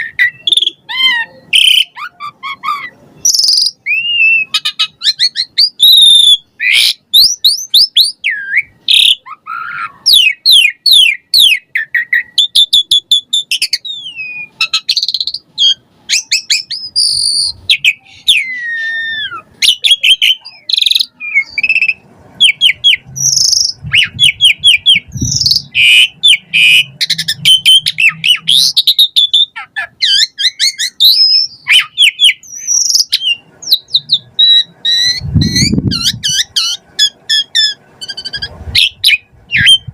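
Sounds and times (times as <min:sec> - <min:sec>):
starling singing varied song: 0:00.0 - 0:39.9.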